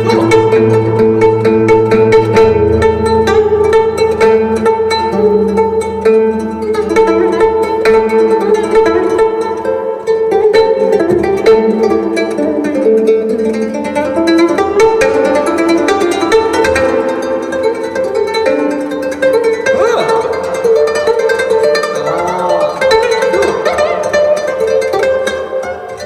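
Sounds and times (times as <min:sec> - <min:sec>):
plucked string instrumental music: 0:00.0 - 0:26.0.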